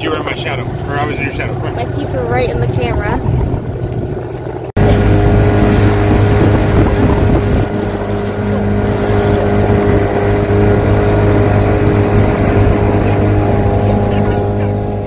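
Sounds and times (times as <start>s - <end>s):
outboard motor humming: 0.0s - 15.0s.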